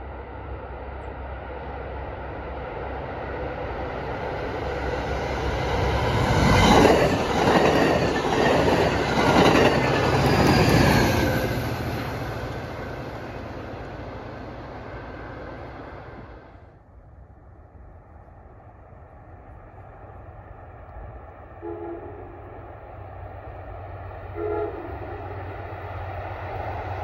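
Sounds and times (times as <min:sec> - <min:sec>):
passenger train wheels rumbling on rails: 0:00.0 - 0:27.0.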